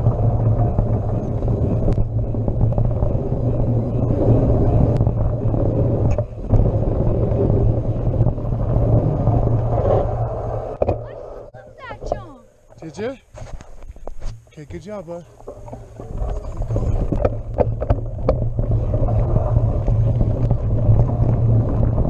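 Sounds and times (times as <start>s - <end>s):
wind on microphone: 0.0s - 12.2s, 15.3s - 22.0s
bike tyres rumbling on dirt: 0.0s - 22.0s.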